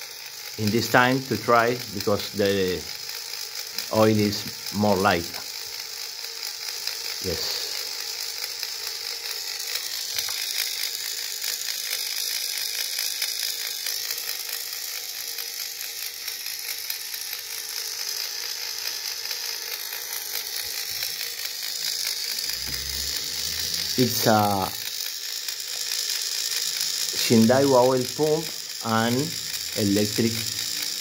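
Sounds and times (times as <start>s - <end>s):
electric oil pump clicking: 0.0s - 31.0s.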